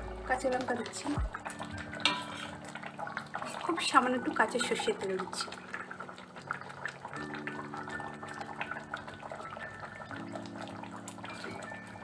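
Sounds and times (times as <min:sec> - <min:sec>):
curry simmering and bubbling: 0:00.0 - 0:12.0
soft background music: 0:00.0 - 0:12.0.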